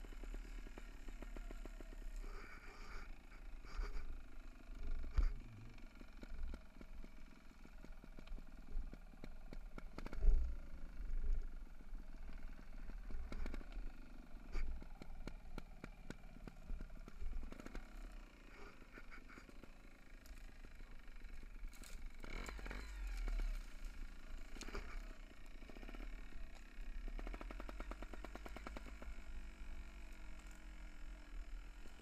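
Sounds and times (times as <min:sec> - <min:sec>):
tyres on dirt trail: 0:00.0 - 0:32.0.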